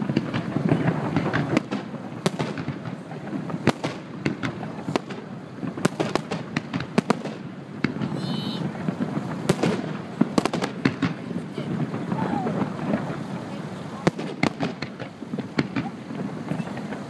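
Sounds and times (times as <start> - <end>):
fireworks bangs and crackles: 0.0 - 17.0
low rumble of fireworks: 0.0 - 17.0.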